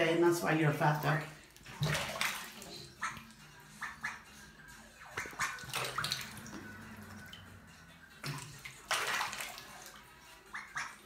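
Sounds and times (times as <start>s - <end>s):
water splashing in a bathtub: 0.0s - 11.0s.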